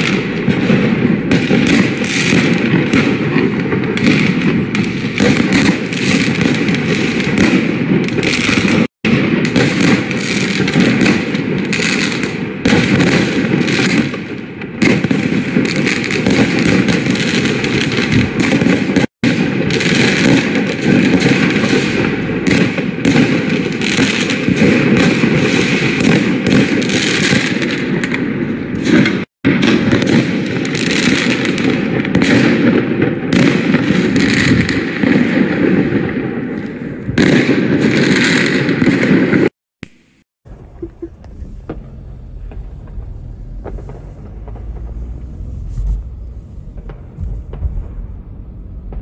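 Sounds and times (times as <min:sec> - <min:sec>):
distant firework pops: 0:00.0 - 0:40.2, 0:40.8 - 0:46.0, 0:46.7 - 0:48.2
fireworks crackling bangs: 0:00.0 - 0:49.0.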